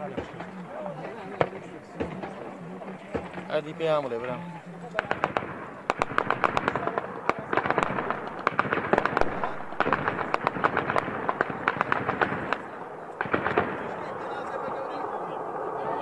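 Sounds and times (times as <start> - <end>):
gunshots: 0.0 - 14.8.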